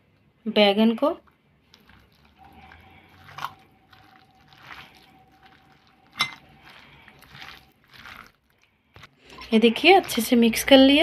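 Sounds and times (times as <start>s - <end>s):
hand squelching mashed food: 1.2s - 10.8s.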